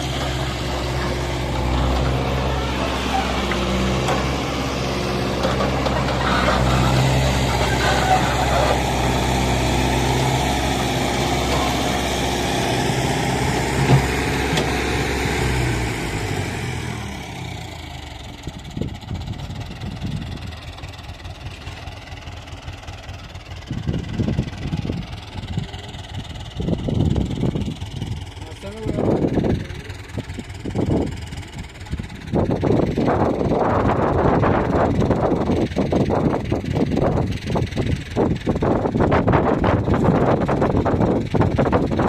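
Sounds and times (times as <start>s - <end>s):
digger diesel engine running: 0.0s - 42.0s.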